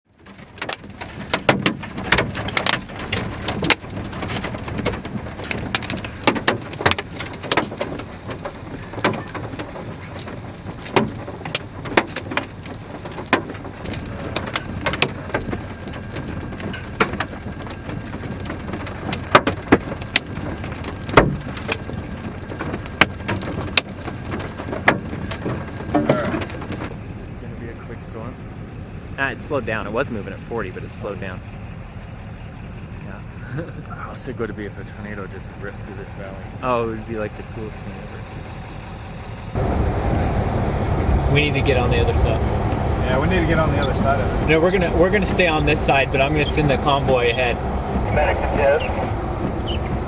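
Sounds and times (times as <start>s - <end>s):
hailstones striking a vehicle: 0.1s - 26.9s, 33.4s - 50.0s
rain rushing: 0.3s - 27.0s, 33.5s - 50.0s.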